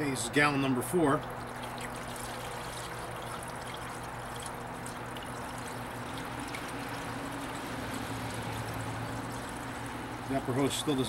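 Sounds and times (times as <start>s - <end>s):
liquid pouring through funnel: 1.2s - 11.0s.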